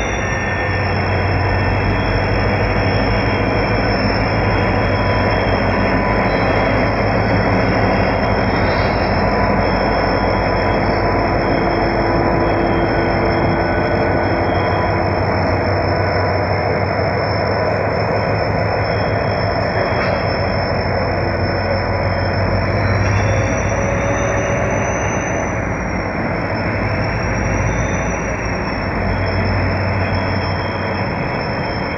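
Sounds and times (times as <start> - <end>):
locomotive and wagons rumbling: 0.0 - 31.9
thin high squeal: 0.0 - 31.9.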